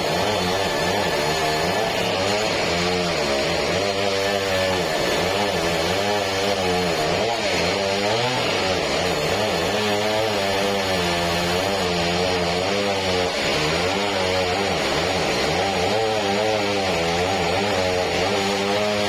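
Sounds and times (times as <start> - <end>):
saw hissing through log: 0.0 - 19.0
sawmill engine running under load: 0.0 - 19.0.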